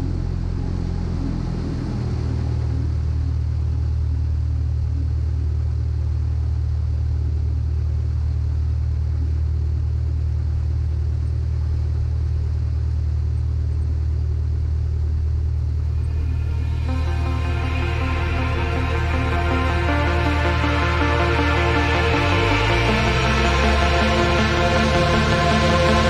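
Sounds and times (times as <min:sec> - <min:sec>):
light aircraft engine drone: 0:00.0 - 0:26.0.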